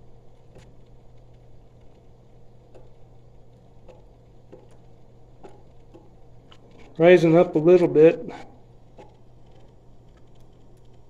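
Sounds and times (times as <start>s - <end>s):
circulating pump hum: 0.0s - 11.0s.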